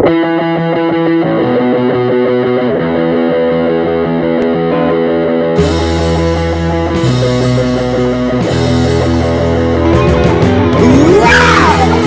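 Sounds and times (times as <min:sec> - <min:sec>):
distorted electric guitar chords: 0:00.0 - 0:12.0
heavy rock band with deep bass: 0:00.0 - 0:12.0.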